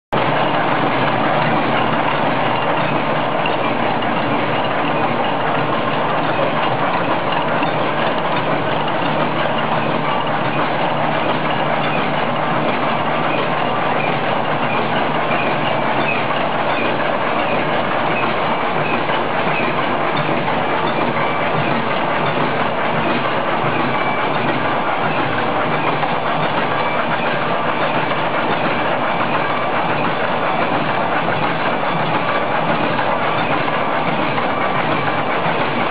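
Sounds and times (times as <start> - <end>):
mesh machine mechanical clatter: 0.2 - 35.9.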